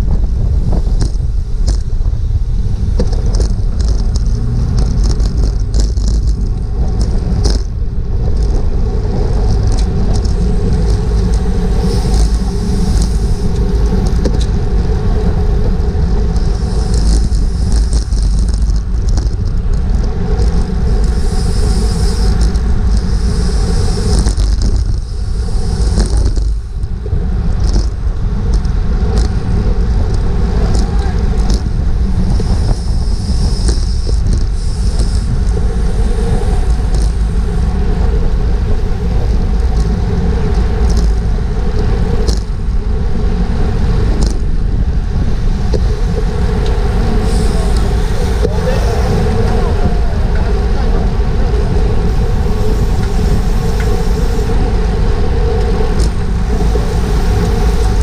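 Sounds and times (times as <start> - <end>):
bicycle tyre and drivetrain noise: 0.0 - 58.0
wind buffeting microphone: 0.0 - 58.0.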